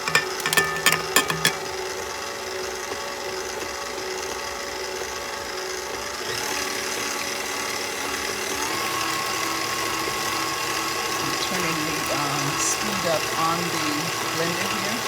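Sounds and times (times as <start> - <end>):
electric mixer running: 0.0 - 15.0.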